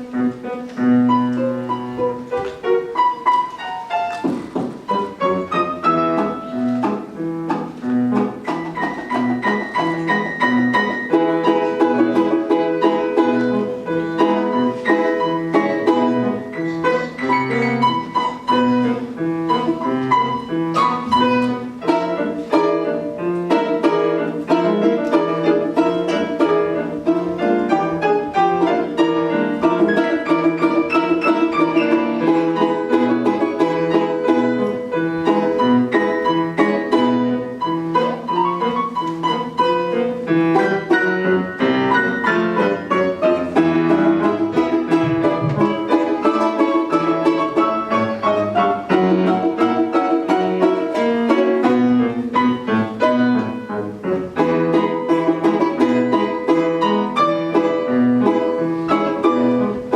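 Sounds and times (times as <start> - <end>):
piano accompaniment: 0.0 - 59.9
solo instrument playing quick notes: 0.4 - 53.8.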